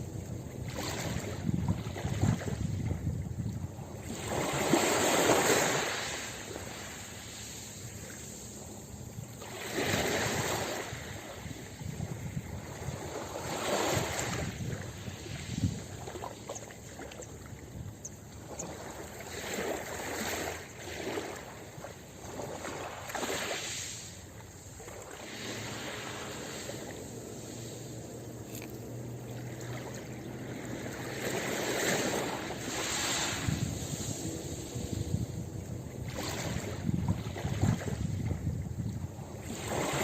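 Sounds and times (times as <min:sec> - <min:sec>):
ocean waves breaking on a beach: 0:00.0 - 0:40.0.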